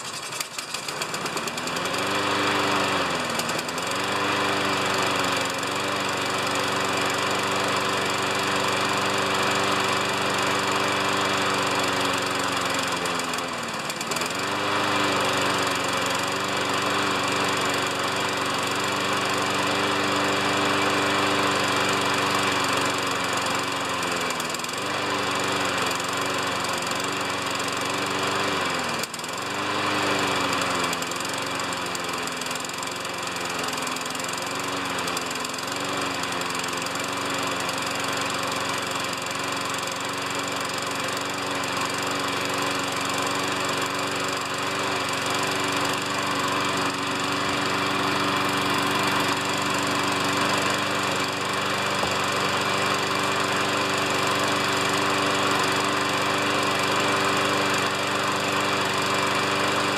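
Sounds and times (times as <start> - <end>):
lawn mower engine running unevenly: 0.0 - 59.9.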